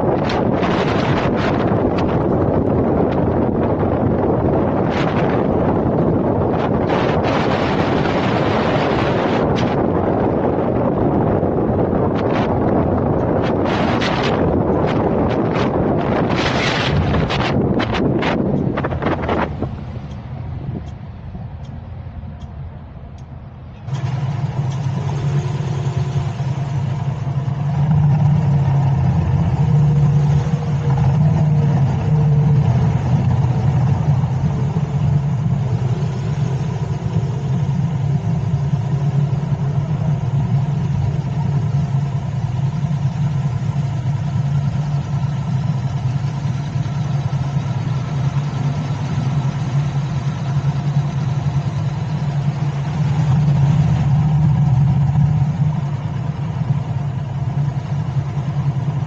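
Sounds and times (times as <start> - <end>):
road and wind noise: 0.0 - 59.0
vehicle engine hum: 0.0 - 59.0.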